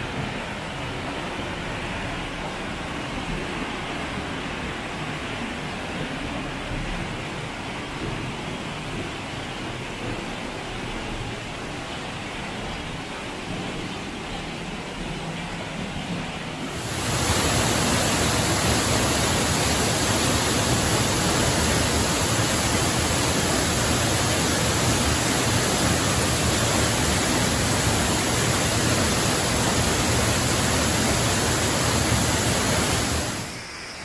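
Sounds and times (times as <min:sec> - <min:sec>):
waterfall rushing into pool: 0:00.0 - 0:34.0.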